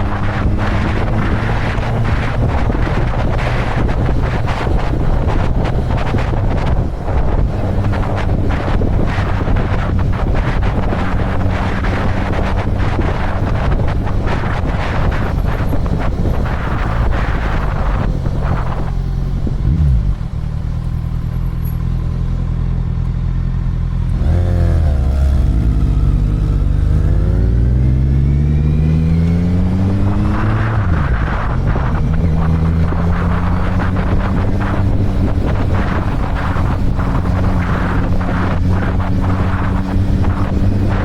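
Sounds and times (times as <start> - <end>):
wind buffeting microphone: 0.0 - 22.7, 24.0 - 41.0
motorcycle engine running: 0.0 - 41.0.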